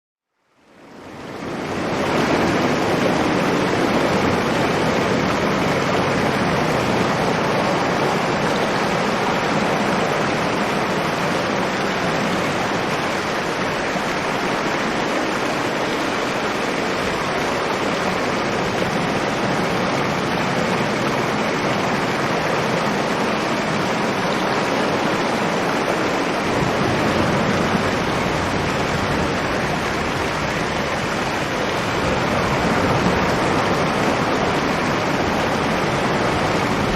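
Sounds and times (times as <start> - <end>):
strong wind rushing: 0.9 - 36.9.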